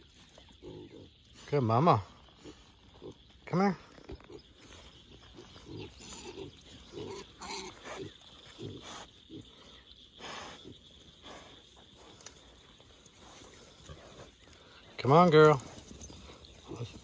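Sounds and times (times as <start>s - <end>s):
pig grunting softly: 0.0s - 17.0s.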